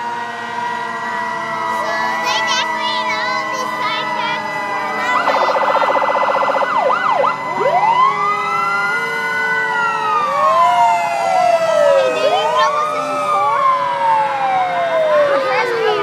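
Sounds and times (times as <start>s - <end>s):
fire truck sirens: 0.0s - 16.0s.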